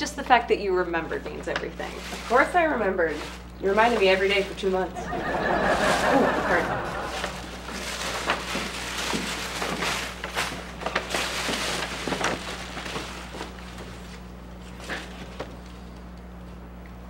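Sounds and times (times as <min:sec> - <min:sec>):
tissue paper rustling: 0:01.0 - 0:15.9.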